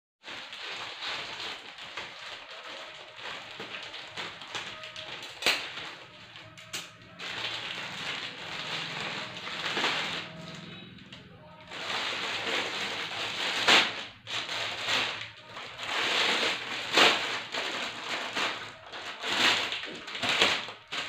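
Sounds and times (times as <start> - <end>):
plastic bag crinkling: 0.2 - 21.0.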